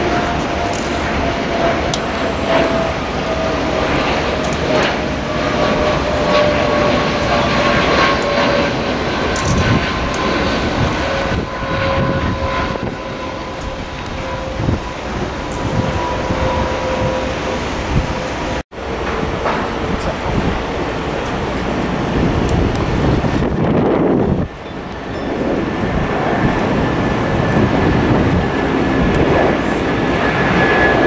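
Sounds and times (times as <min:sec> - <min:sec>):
jet engine roar with whine: 0:00.0 - 0:31.0.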